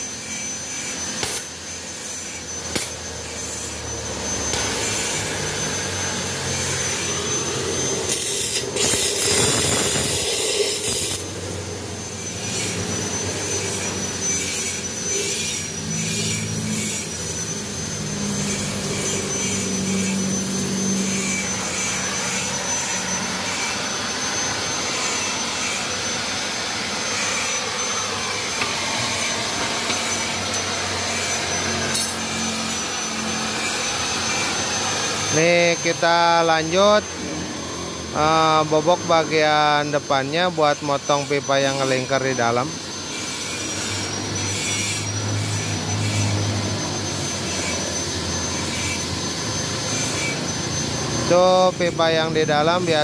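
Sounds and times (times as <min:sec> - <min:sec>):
metal cutting whine with hiss: 0:00.0 - 0:53.0.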